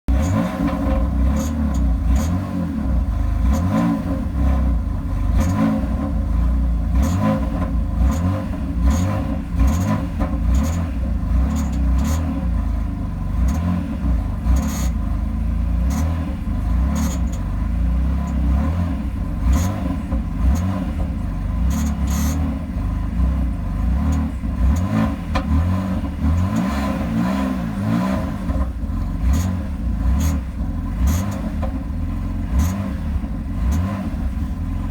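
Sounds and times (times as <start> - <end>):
car engine rumbling: 0.0 - 34.9.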